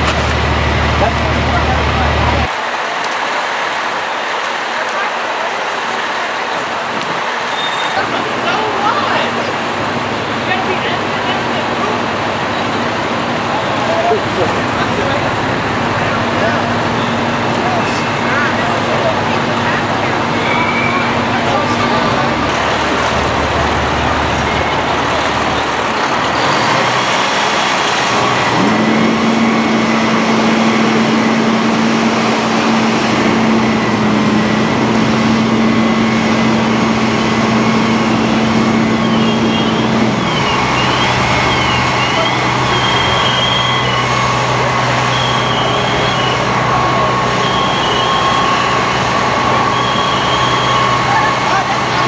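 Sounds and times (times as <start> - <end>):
fire truck engine droning: 0.0 - 52.0.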